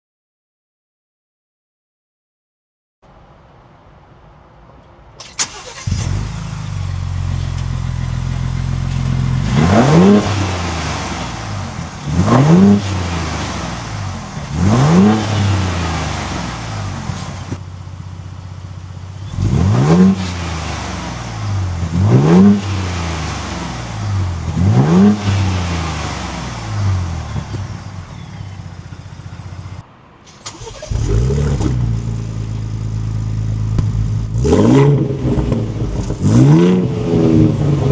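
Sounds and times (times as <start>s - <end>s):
car engine starting and idling: 4.7s - 37.9s
engine revving in blips: 5.3s - 17.6s, 19.2s - 29.8s, 30.5s - 37.9s.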